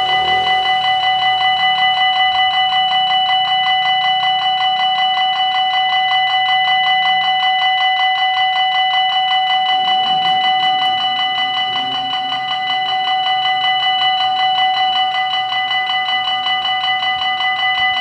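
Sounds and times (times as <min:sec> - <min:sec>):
level crossing warning bells: 0:00.0 - 0:18.0.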